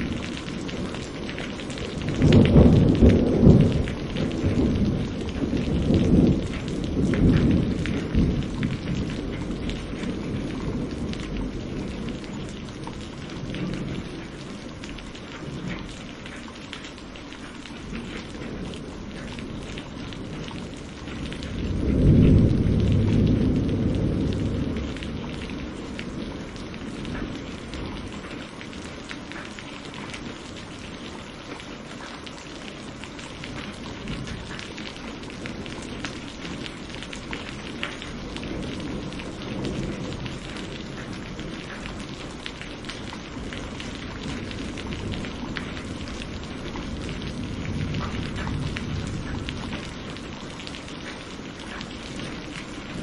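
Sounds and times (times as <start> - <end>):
thunder rumbling: 0.0 - 16.6, 17.7 - 31.6, 32.6 - 53.0
steady rain falling: 0.0 - 53.0.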